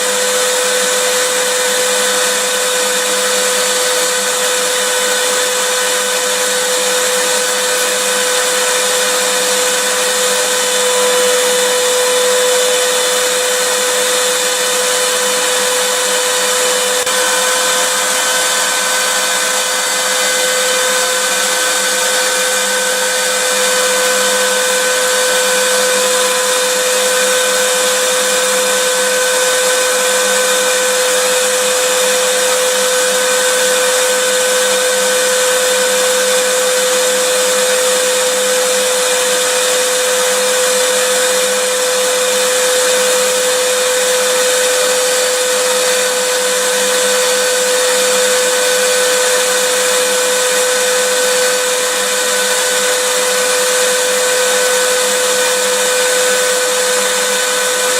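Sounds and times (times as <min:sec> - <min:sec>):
vacuum cleaner motor running: 0:00.0 - 0:57.9.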